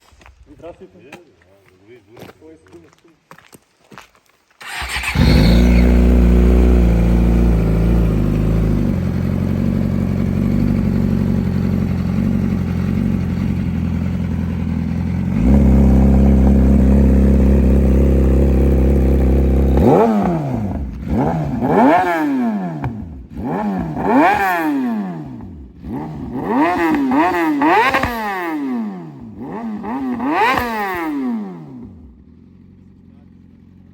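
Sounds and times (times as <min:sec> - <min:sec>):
motorcycle engine idling: 0:04.6 - 0:28.4, 0:29.3 - 0:33.9
motorcycle engine revving: 0:04.6 - 0:33.9.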